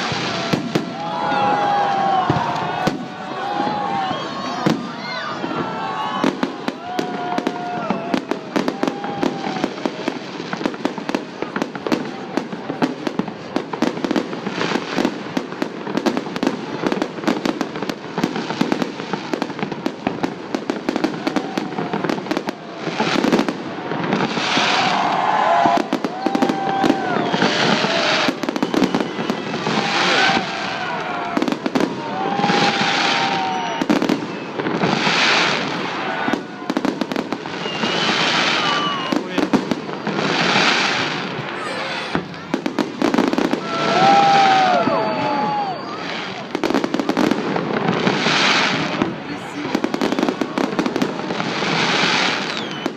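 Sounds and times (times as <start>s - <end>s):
fireworks crackling: 0.0s - 52.9s
hissing firework bursts: 0.0s - 52.9s
onlookers' voices: 0.0s - 52.9s.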